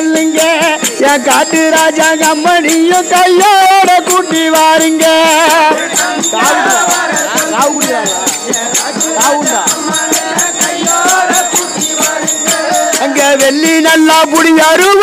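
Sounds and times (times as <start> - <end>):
fast rattling percussion beat: 0.0 - 15.0
men singing devotional song: 0.0 - 15.0.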